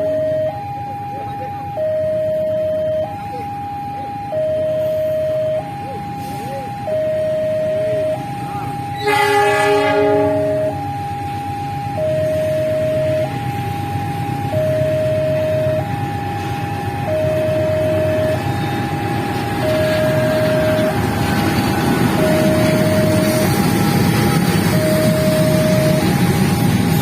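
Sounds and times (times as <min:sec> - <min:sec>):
freight train rumbling: 0:00.0 - 0:27.0
two-tone crossing alarm: 0:00.0 - 0:27.0.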